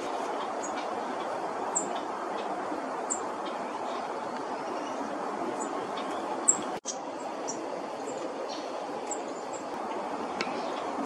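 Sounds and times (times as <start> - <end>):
woodland ambience hiss: 0.0 - 11.0.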